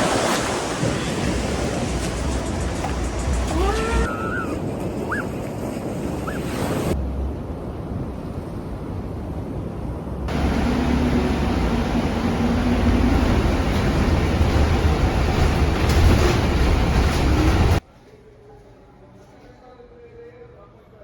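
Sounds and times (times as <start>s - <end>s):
ocean surf: 0.0s - 17.8s.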